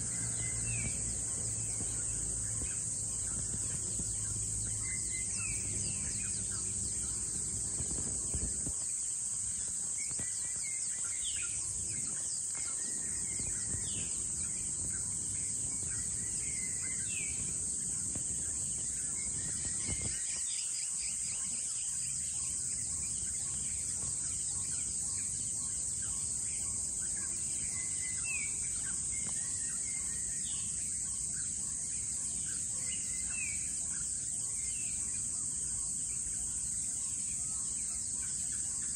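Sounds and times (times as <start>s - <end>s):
bird chirps: 0.0s - 38.9s
insects droning: 0.0s - 38.9s.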